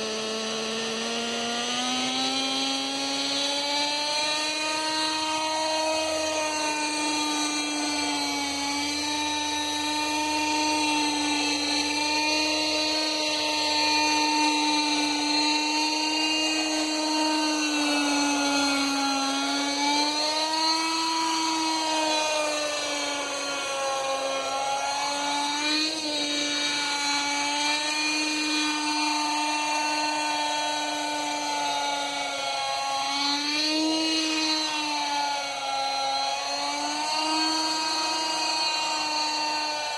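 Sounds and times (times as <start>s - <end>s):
model helicopter engine whine: 0.0s - 39.9s.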